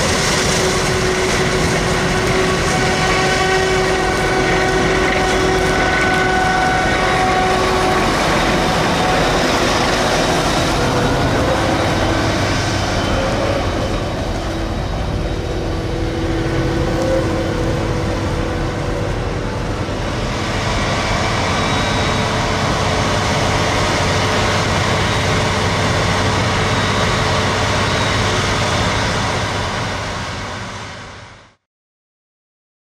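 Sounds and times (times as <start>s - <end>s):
machinery whining tones: 0.0s - 31.1s
harvest machinery running: 0.0s - 31.4s.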